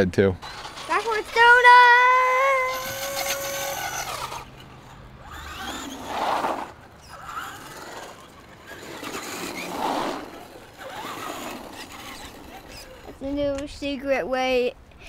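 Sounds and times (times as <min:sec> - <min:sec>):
toy truck tyres scrubbing on concrete: 0:00.4 - 0:13.3.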